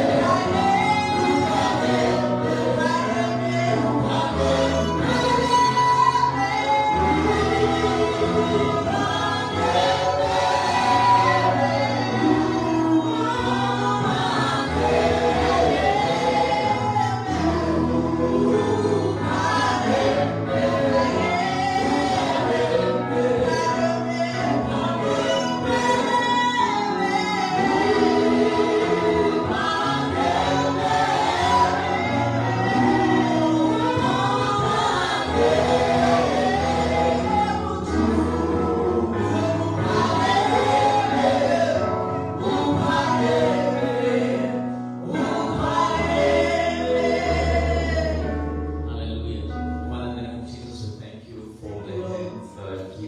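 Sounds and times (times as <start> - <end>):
group singing gospel song: 0.0 - 48.8.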